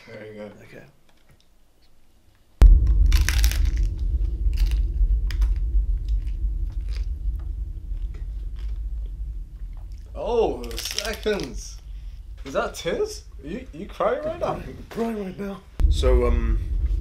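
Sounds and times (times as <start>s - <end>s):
steady low rumble: 2.6s - 17.0s.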